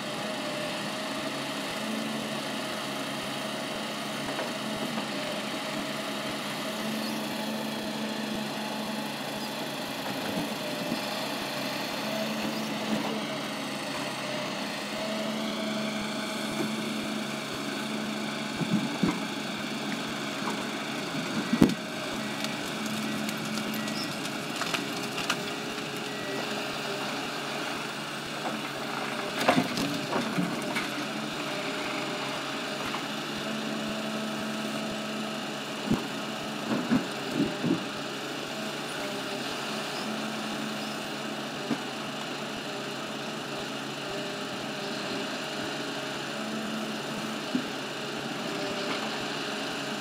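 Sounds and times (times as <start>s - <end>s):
diesel engine running: 0.0s - 50.0s
hydraulic crane humming: 0.0s - 50.0s.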